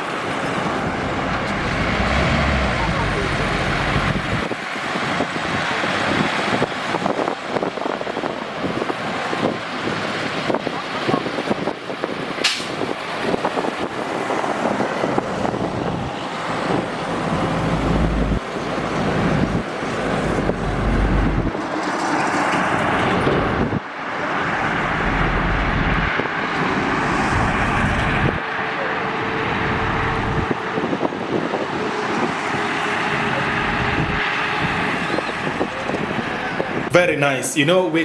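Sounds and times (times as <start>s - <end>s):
heavy trucks passing: 0.0s - 10.6s, 11.4s - 36.9s.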